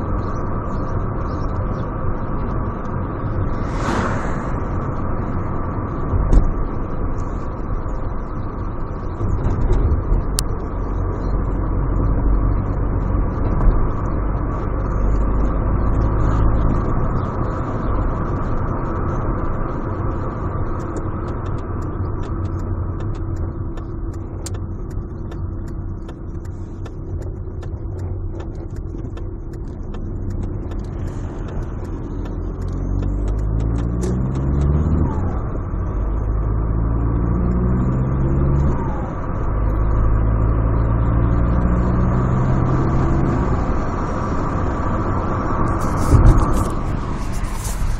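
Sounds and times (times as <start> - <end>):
diesel engine rumble: 0.0 - 47.9.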